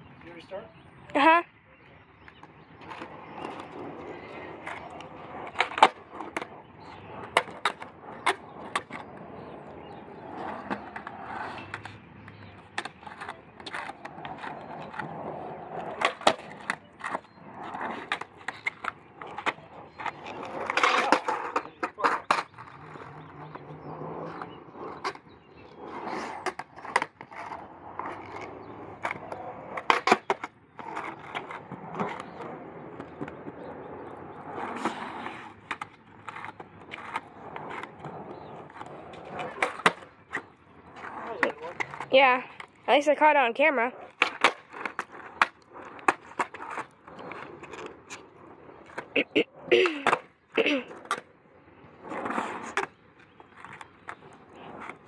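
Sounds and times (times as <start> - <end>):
skateboard wheels rolling on concrete: 0.0 - 55.0
skateboard clacking on ground: 2.2 - 55.0.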